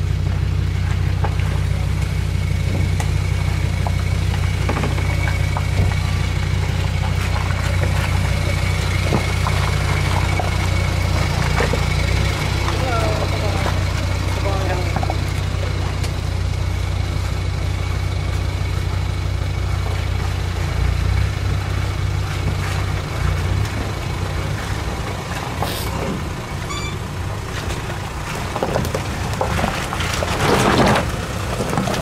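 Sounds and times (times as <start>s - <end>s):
tyres crunching over loose stones: 0.0s - 32.0s
van engine rumble: 0.0s - 32.0s.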